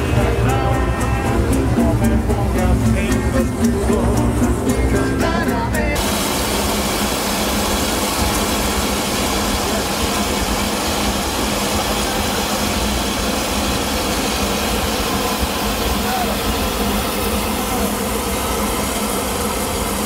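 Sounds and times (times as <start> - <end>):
steam locomotive hiss and rumble: 0.0 - 20.0.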